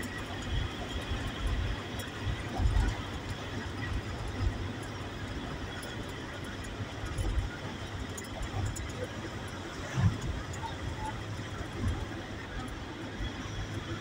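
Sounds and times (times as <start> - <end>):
road and engine noise in vehicle: 0.0 - 14.0.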